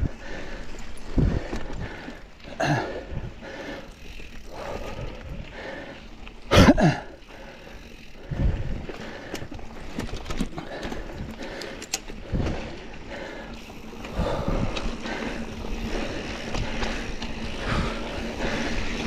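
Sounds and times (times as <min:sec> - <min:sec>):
bike rattling: 0:00.0 - 0:19.0
bike tyres rumbling on dirt: 0:00.0 - 0:19.0.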